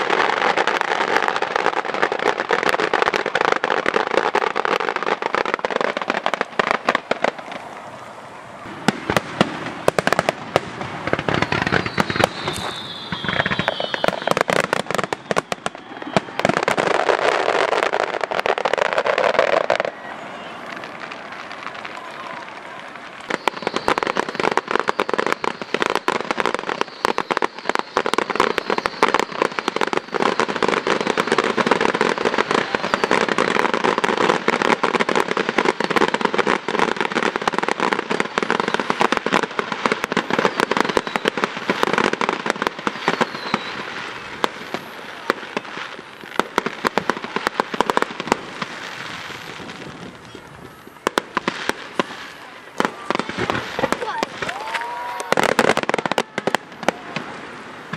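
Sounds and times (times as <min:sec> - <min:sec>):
fireworks crackling and popping: 0:00.0 - 0:57.9.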